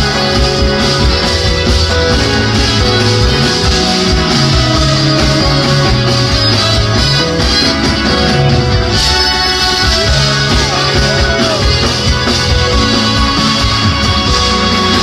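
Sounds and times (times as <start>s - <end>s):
jazz-fusion band playing: 0.0s - 15.0s
stepping bass line: 0.0s - 15.0s.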